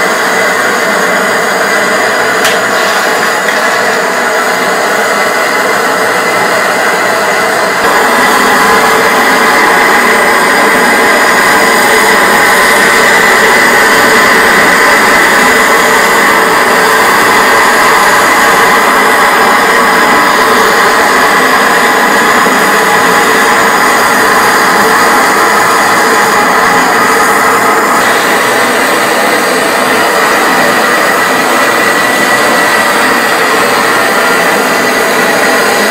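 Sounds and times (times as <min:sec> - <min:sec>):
gas torch hissing: 0:00.0 - 0:35.9.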